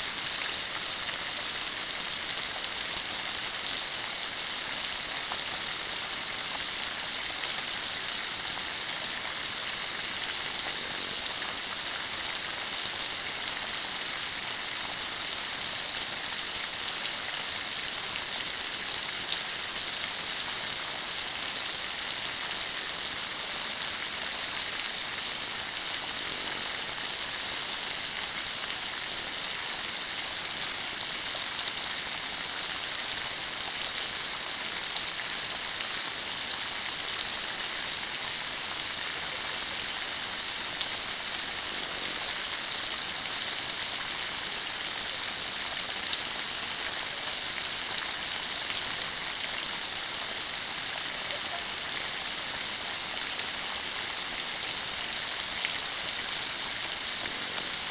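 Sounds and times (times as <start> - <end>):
rain shower hiss: 0.0 - 57.9.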